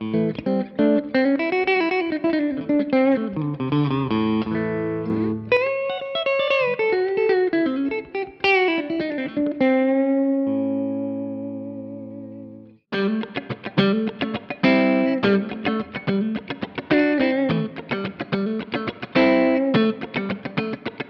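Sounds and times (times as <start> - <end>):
electric guitar lead with reverb: 0.0 - 21.0
guitar chord ringing: 0.0 - 21.0.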